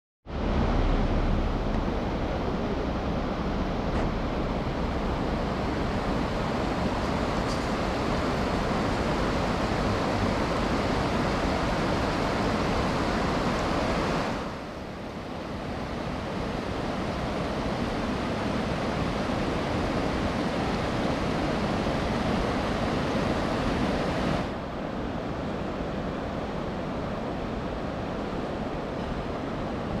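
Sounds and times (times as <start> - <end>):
wind rumbling on microphone: 0.3 - 24.6
water rushing over weir: 0.3 - 24.7.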